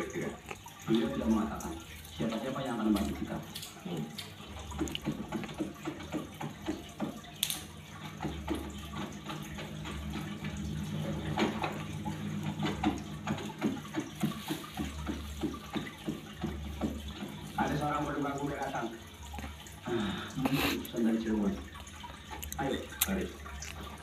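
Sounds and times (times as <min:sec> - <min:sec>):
water drips and splashes: 0:00.0 - 0:24.0
water running and trickling: 0:00.0 - 0:24.0.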